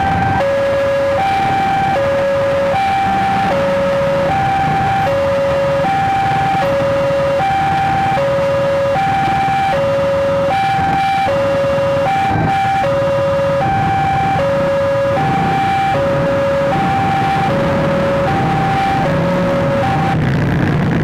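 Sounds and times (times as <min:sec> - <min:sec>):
two-tone crossing alarm: 0:00.0 - 0:20.4.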